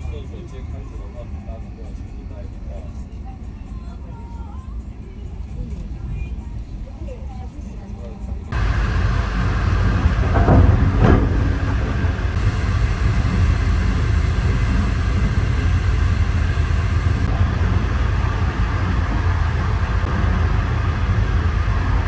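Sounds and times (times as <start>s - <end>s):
vehicle cabin rumble: 0.0s - 22.0s.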